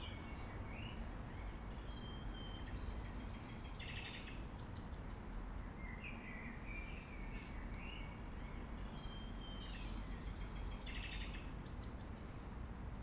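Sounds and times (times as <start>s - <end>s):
garden birds singing: 0.0s - 13.0s.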